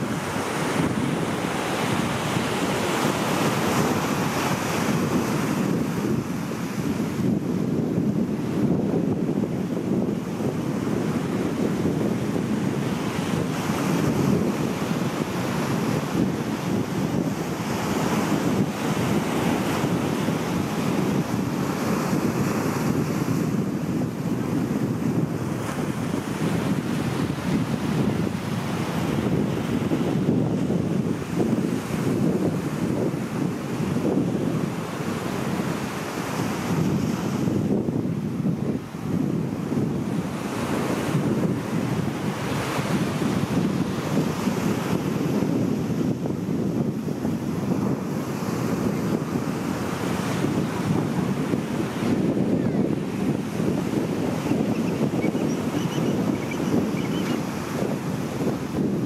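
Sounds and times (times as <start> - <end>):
surf washing over rocks: 0.0 - 59.0
wind buffeting microphone: 0.0 - 59.0.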